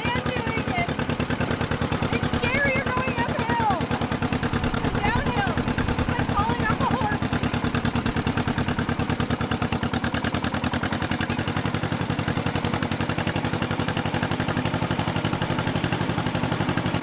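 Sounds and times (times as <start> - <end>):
two-cylinder tractor engine popping: 0.0 - 17.0.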